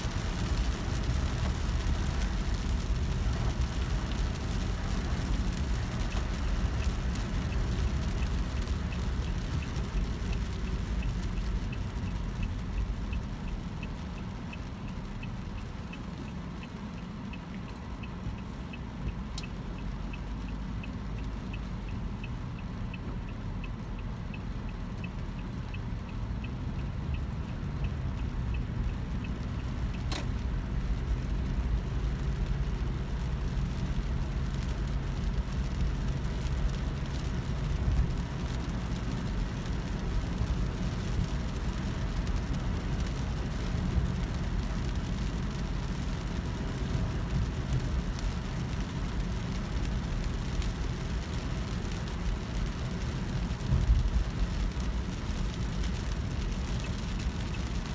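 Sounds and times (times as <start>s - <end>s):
turn signal ticking: 0.0s - 57.9s.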